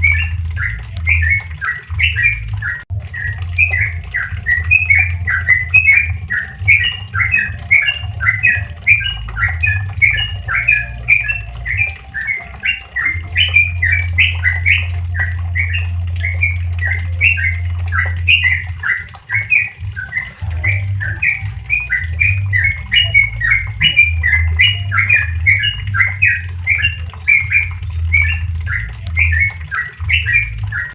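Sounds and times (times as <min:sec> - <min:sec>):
bird chattering song: 0:00.0 - 0:30.9
low hum: 0:00.0 - 0:30.9.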